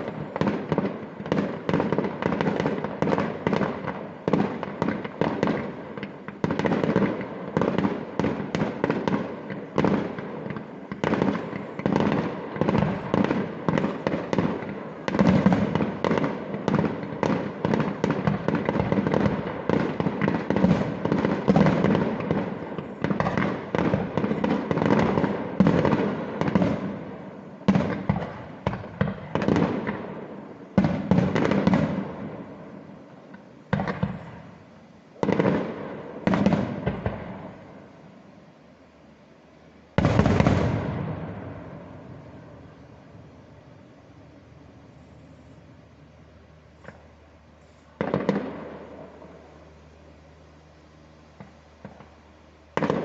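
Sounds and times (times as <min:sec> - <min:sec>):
fireworks bangs and crackles: 0:00.0 - 0:38.4, 0:39.9 - 0:53.0.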